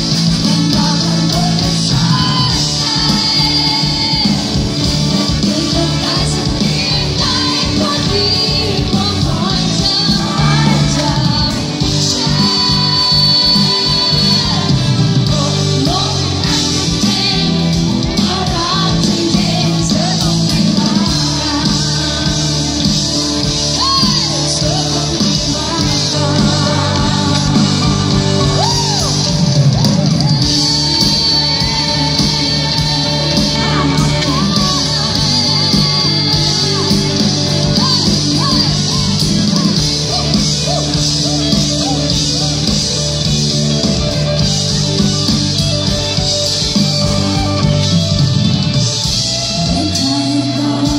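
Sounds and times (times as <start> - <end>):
person singing: 0.0 - 48.0, 48.7 - 50.9
live band playing pop song: 0.0 - 50.9.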